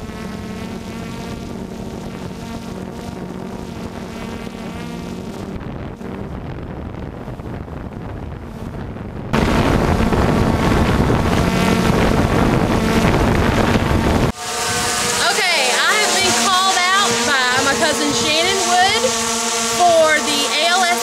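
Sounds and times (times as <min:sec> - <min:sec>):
drone propellers whirring: 0:00.0 - 0:21.0
wind rush on microphone: 0:00.0 - 0:21.0.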